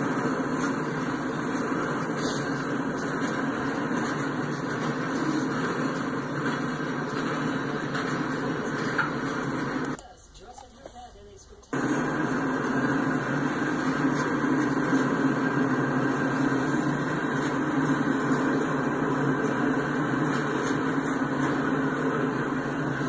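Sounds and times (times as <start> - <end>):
freight train rolling past: 0.0 - 10.0, 11.8 - 23.0.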